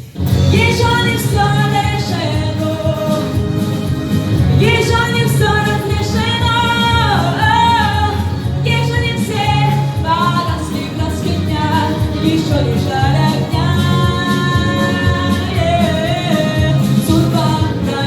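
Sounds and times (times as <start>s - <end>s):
instrumental accompaniment: 0.0s - 18.0s
woman singing: 0.3s - 18.0s.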